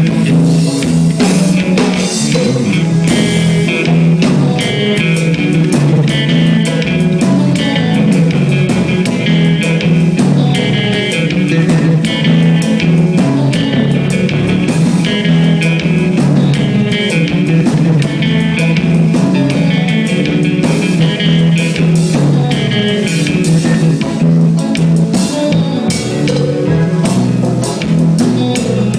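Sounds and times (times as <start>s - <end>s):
drums steady beat: 0.0s - 28.9s
live band playing: 0.0s - 28.9s.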